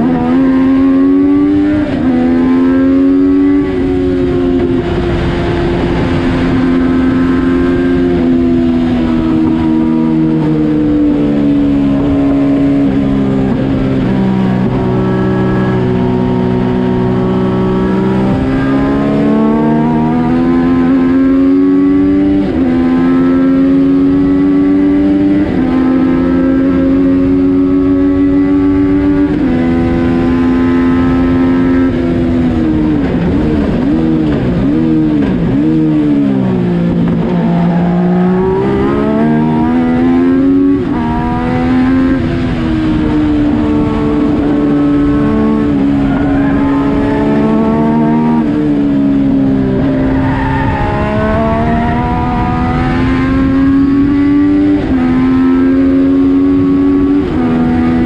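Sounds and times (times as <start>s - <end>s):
motorcycle engine revving high: 0.0s - 58.0s.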